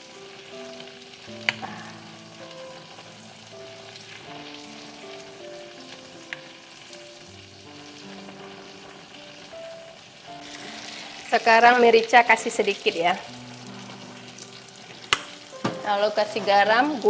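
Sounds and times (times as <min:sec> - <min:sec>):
soft background melody: 0:00.0 - 0:17.0
vegetables sizzling in a wok: 0:00.0 - 0:17.0.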